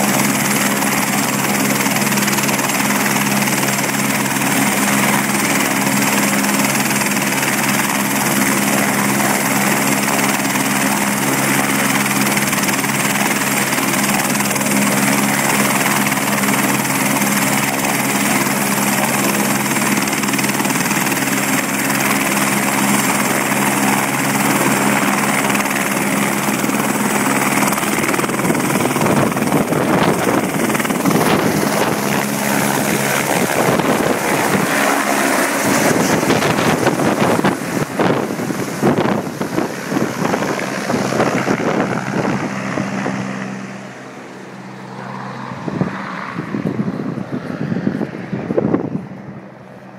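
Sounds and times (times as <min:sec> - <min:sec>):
helicopter turbine and rotor hum: 0:00.0 - 0:49.9.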